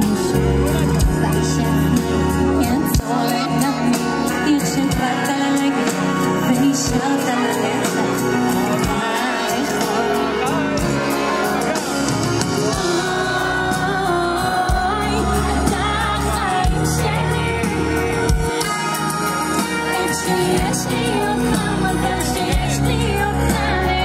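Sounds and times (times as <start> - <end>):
pop song with woman singing: 0.0 - 11.3, 12.5 - 24.0.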